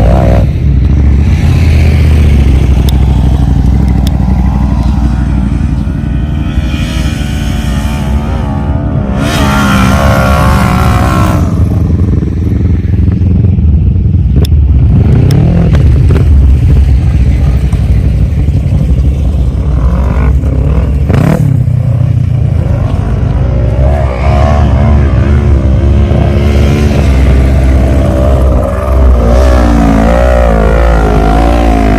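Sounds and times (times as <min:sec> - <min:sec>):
quad bike engines revving: 0:00.0 - 0:31.9.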